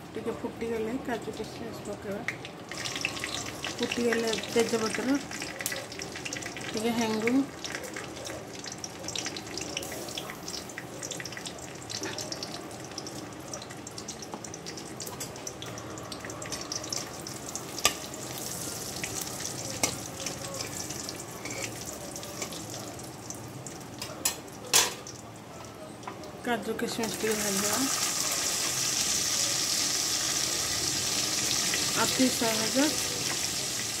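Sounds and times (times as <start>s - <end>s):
ghee sizzling in a pan: 1.0s - 25.4s, 26.6s - 34.0s.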